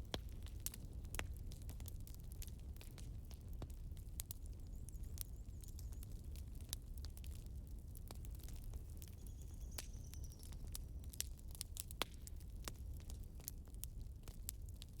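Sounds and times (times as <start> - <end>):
burning wood crackling and popping: 0.0 - 15.0.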